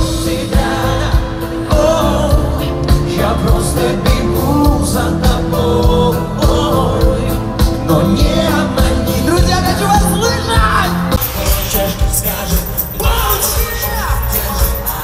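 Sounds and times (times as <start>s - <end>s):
live pop music: 0.0s - 15.0s
person singing: 0.0s - 15.0s.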